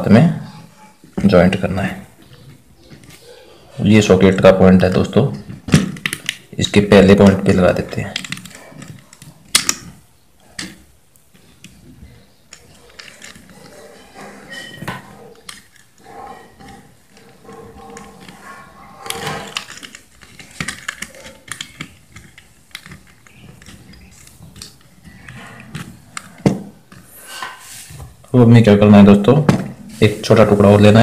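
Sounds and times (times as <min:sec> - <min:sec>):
hands twisting copper wire: 0:00.0 - 0:28.4.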